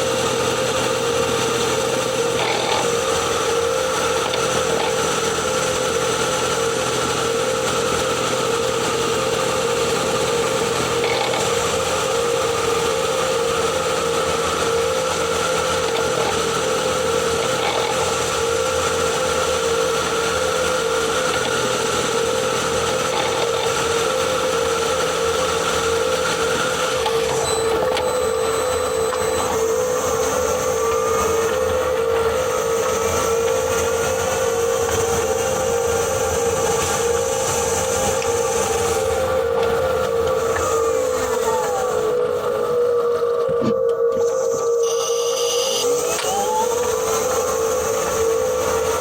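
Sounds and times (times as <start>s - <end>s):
gearbox churning: 0.0s - 49.0s
gearbox whine: 0.0s - 49.0s.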